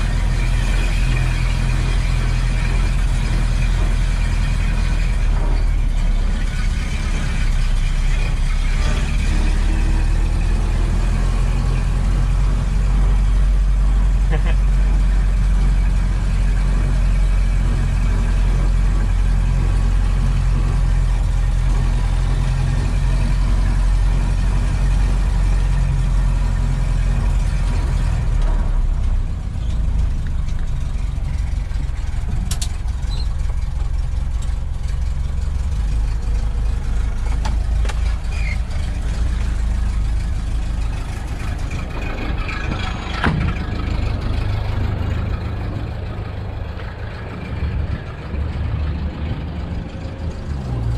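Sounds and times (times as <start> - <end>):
truck engine running: 0.0 - 50.9.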